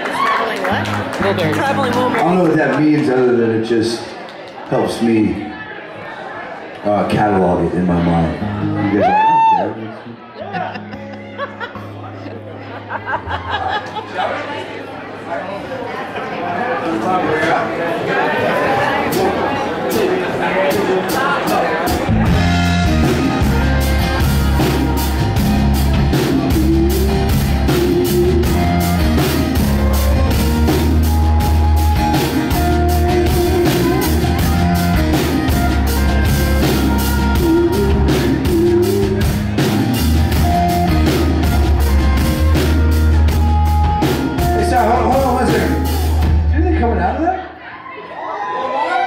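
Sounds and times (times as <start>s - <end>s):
live rock band playing: 0.0s - 4.2s, 7.2s - 14.7s, 18.5s - 47.2s.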